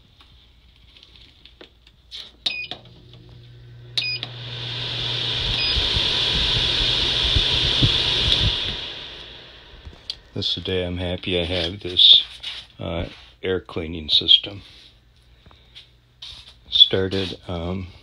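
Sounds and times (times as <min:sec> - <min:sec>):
air filter fan blowing: 0:03.0 - 0:18.0.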